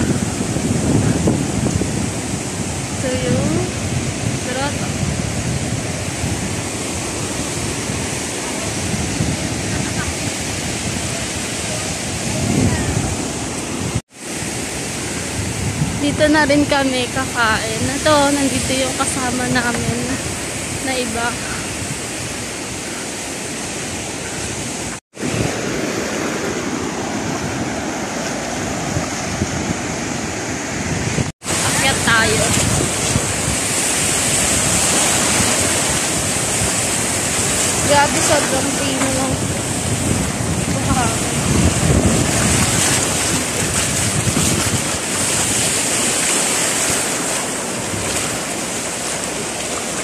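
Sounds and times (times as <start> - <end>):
sea surf breaking on beach: 0.0 - 50.0
wind buffeting microphone: 0.0 - 50.0.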